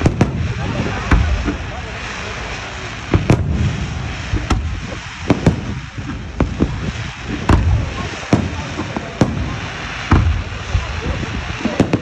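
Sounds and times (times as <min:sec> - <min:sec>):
fireworks bangs: 0:00.0 - 0:12.0
steady noisy background: 0:00.0 - 0:12.0.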